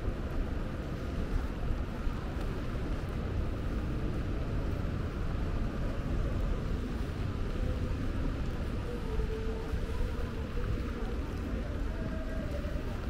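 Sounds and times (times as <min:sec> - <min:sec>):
rain hissing on wet pavement: 0:00.0 - 0:13.0.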